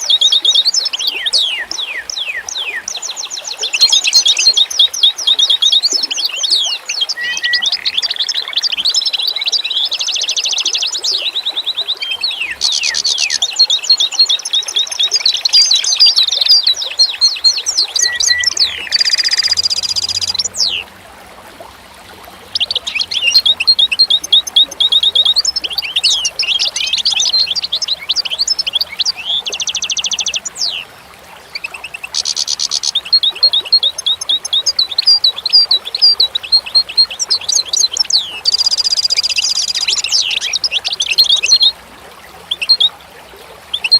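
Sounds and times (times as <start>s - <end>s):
songbirds singing: 0.0s - 21.0s, 22.3s - 43.9s.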